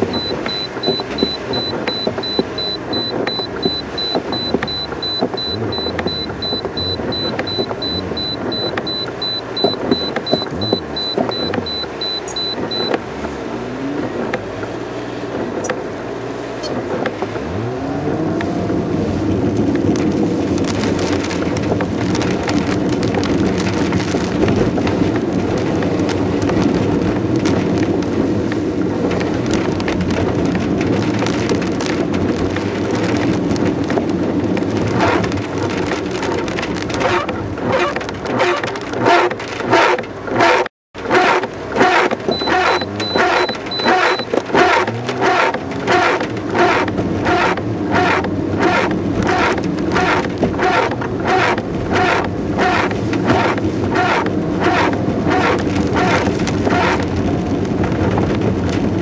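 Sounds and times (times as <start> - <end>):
car engine from inside cabin: 0.0 - 59.0
rain pattering on car: 0.0 - 59.0.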